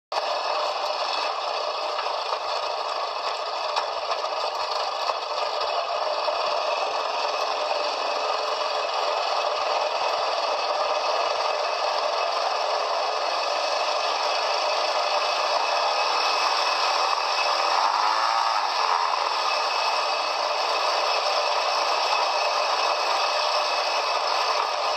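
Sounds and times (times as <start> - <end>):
constant rattle: 0.2 - 24.9
quad bike engine running: 0.2 - 24.9.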